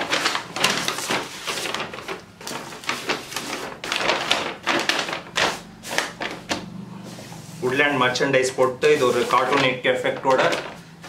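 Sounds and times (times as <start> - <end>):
paper bag rustling: 0.0 - 11.0.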